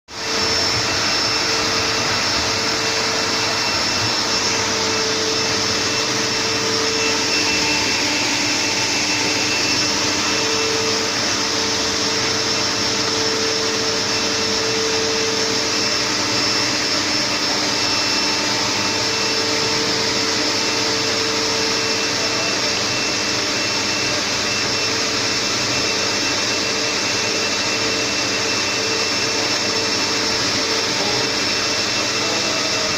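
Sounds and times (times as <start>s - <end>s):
chimney sweeping motor whining: 0.1s - 32.9s.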